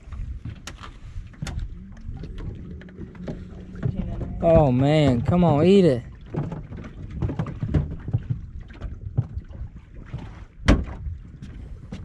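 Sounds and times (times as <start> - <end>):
waves lapping against boat hull: 0.0 - 12.0.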